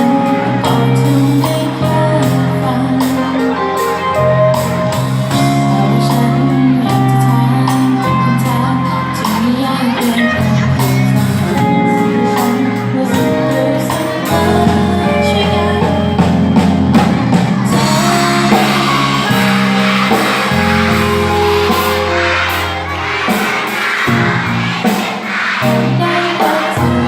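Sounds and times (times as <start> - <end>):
song with singing: 0.0 - 27.0.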